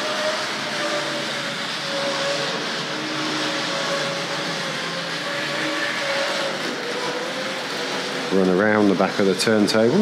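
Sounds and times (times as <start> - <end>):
model train wheels rolling on rails: 0.0 - 10.0.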